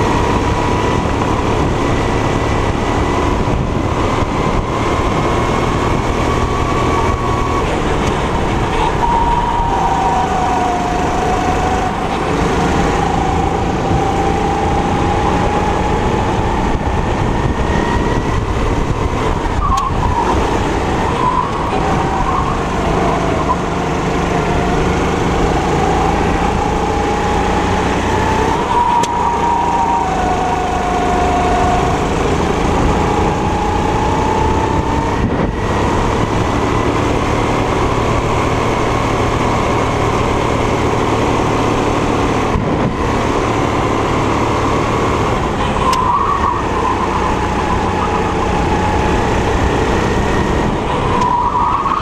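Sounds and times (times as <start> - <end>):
kart engine running hard: 0.0 - 52.0.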